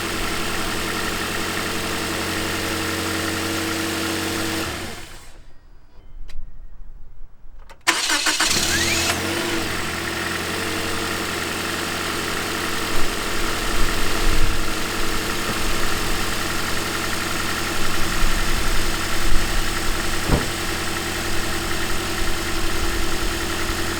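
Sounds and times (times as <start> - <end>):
car engine cranking and idling: 0.0 - 5.6, 7.7 - 23.9.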